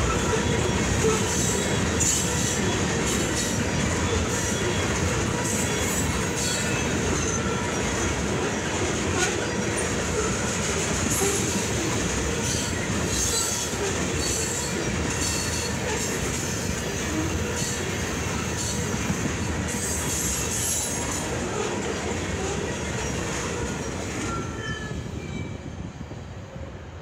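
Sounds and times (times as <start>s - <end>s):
wheel squeal: 0.0s - 25.6s
train wheels rumbling on rails: 0.0s - 27.0s.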